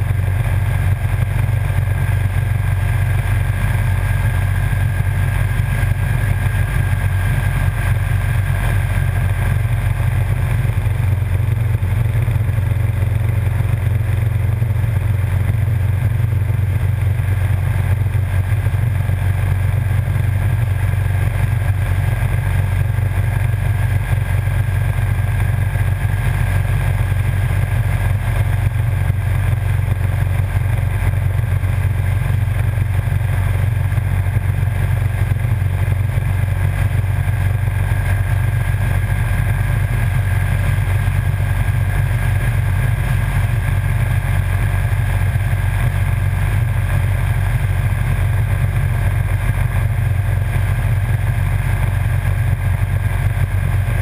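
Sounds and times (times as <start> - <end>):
motorcycle engine drone: 0.0 - 54.0.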